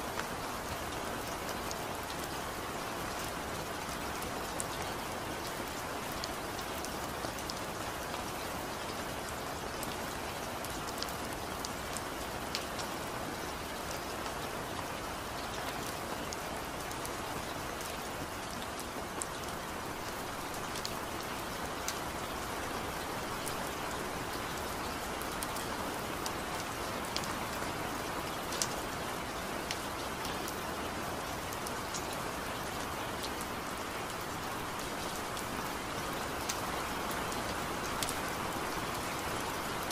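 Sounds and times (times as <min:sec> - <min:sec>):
raindrops ticking close by: 0:00.0 - 0:39.9
steady rainfall: 0:00.0 - 0:39.9.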